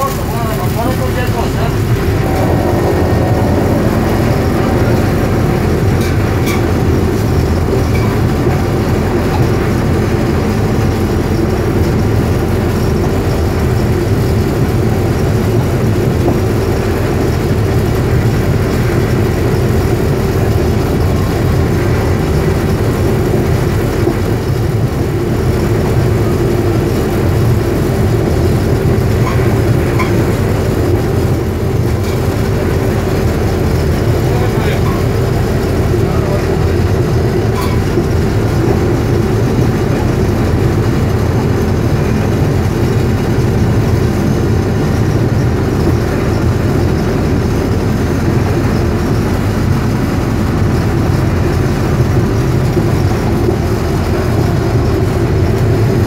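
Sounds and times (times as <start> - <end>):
rail vehicle engine rumbling: 0.0 - 56.0.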